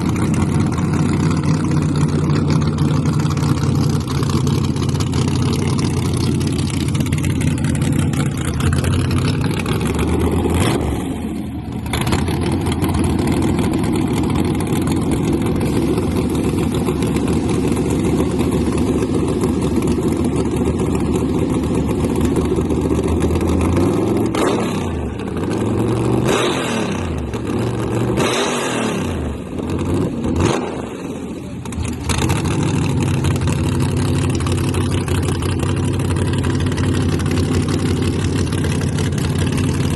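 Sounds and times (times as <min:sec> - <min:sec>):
truck engines revving loud: 0:00.0 - 0:39.9.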